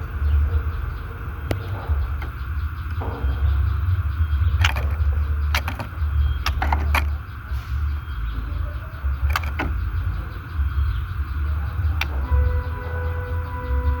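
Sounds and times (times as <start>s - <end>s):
bird call notes: 0.0s - 14.0s
continuous low rumble: 0.0s - 14.0s.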